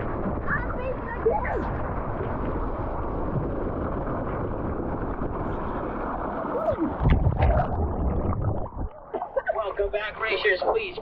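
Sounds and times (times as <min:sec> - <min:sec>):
wind on microphone: 0:00.0 - 0:09.0
water under mat on slide: 0:00.0 - 0:09.5.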